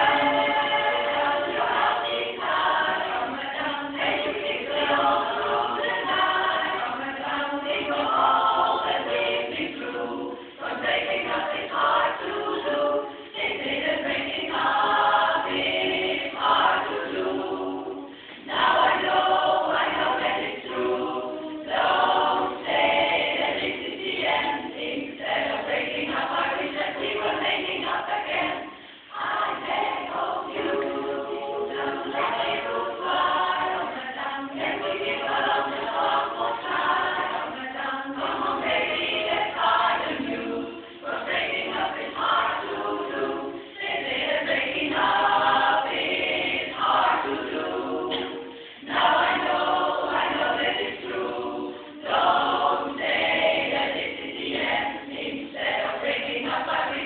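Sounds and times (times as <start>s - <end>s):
women's chorus singing a cappella: 0.0s - 57.0s.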